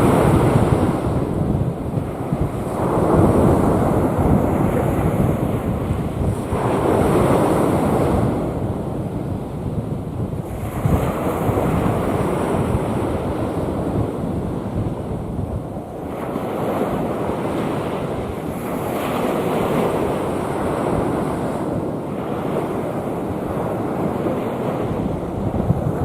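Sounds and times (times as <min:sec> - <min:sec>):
sea waves breaking: 0:00.0 - 0:26.0
wind buffeting microphone: 0:00.0 - 0:26.0.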